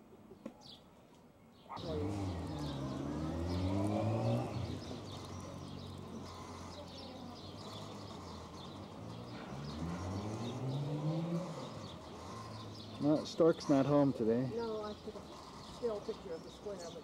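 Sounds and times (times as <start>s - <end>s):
small birds chirping: 0.2s - 17.0s
vehicle engine running: 1.8s - 17.0s.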